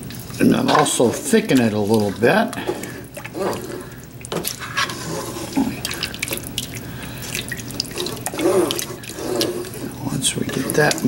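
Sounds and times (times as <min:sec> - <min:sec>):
spoon stirring thick curry: 0:00.2 - 0:11.0.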